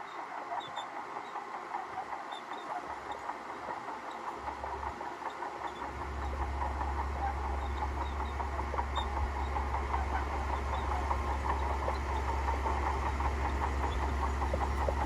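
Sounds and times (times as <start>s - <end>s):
bulldozer engine rumble: 1.0s - 15.0s.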